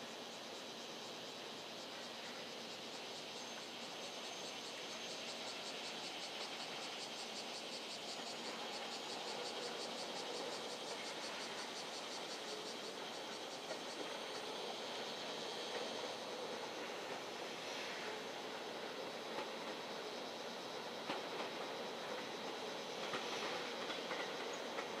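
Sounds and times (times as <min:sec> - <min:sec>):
background hiss: 0:00.0 - 0:25.0
insects chirping: 0:00.0 - 0:25.0.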